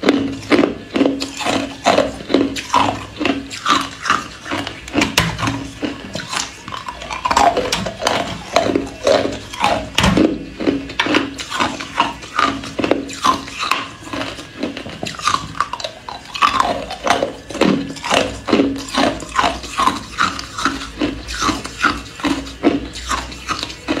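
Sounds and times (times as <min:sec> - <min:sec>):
ice cubes crunching: 0:00.0 - 0:24.0.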